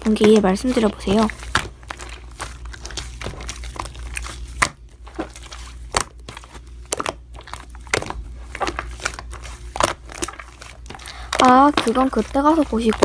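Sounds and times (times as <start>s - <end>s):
slime squeezed crackling: 0.0s - 13.0s.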